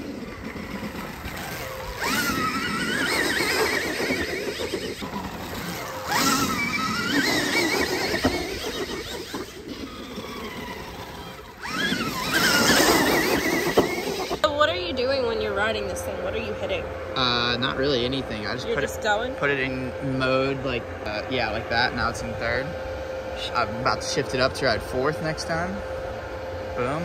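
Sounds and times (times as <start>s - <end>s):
electric motorbike motor whining: 0.0s - 27.0s.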